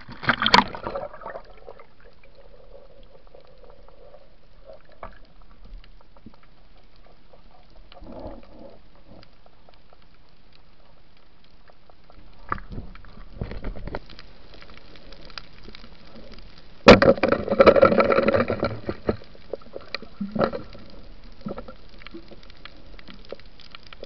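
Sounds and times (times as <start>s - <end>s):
underwater clicks and crackles: 0.0s - 24.0s.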